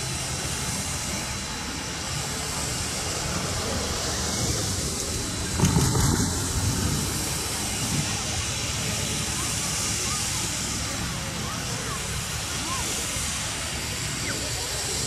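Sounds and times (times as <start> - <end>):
loud rush of noise: 0.0 - 15.0
steam locomotive exhaust rumble: 0.0 - 15.0.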